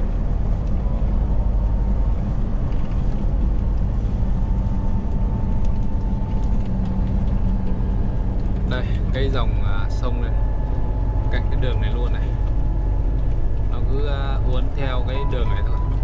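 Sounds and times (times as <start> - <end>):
faint steady whine: 0.0 - 16.0
road noise: 0.0 - 16.0
truck engine drone: 0.0 - 16.0.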